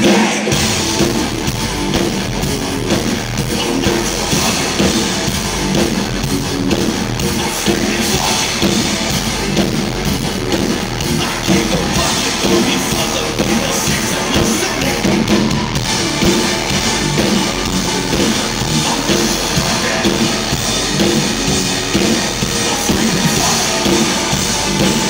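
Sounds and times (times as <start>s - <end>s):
drum kit: 0.0s - 25.0s
electric guitar: 0.0s - 25.0s
live rock band playing: 0.0s - 25.0s.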